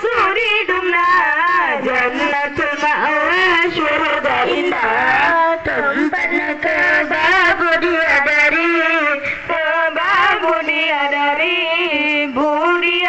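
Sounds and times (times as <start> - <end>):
boys chanting in unison: 0.0 - 13.0.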